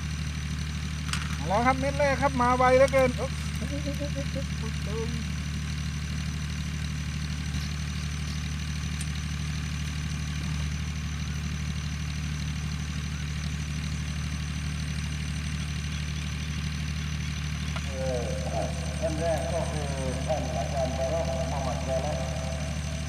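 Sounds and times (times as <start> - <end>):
motor humming: 0.9 - 23.0.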